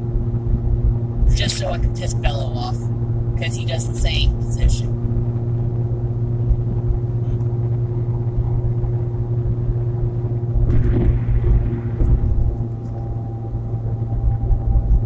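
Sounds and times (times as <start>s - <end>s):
car cabin engine and road drone: 0.0s - 15.0s.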